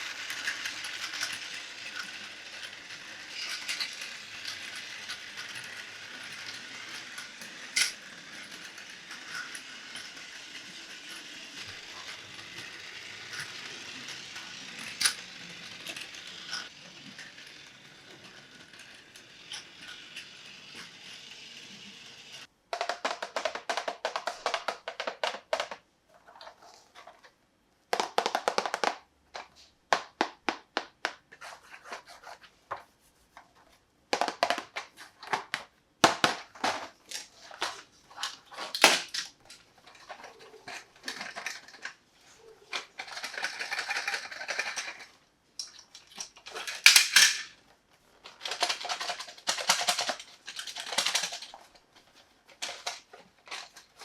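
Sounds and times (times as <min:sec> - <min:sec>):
plastic toy parts clattering: 0:00.0 - 0:27.3, 0:34.1 - 0:54.0.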